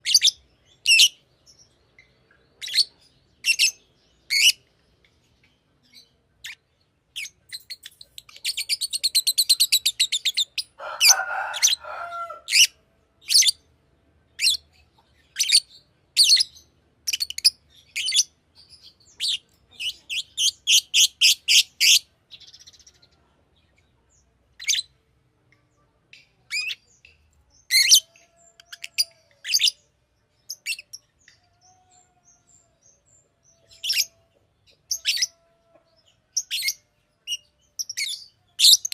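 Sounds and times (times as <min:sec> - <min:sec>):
lovebird chirping: 0:00.0 - 0:04.7, 0:05.4 - 0:10.8, 0:14.3 - 0:23.0, 0:24.2 - 0:25.0, 0:26.4 - 0:35.4, 0:36.3 - 0:38.9.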